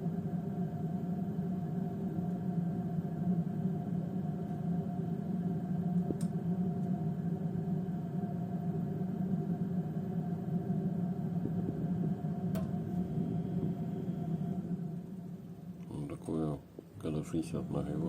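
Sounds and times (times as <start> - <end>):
boiler humming: 0.0 - 18.0.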